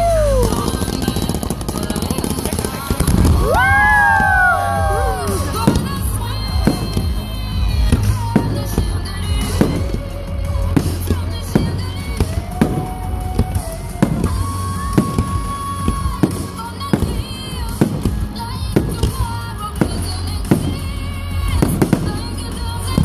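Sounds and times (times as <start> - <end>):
fireworks bangs: 0.0 - 23.0
loud music: 0.0 - 23.0.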